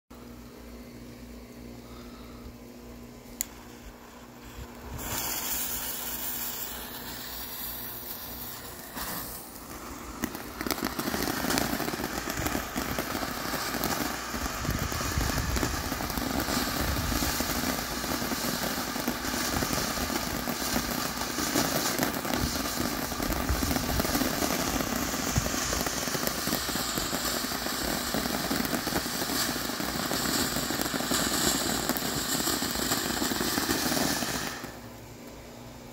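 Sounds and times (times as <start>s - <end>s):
firework fountain hissing and crackling: 1.9s - 35.9s
lit fuse hissing: 3.4s - 35.0s.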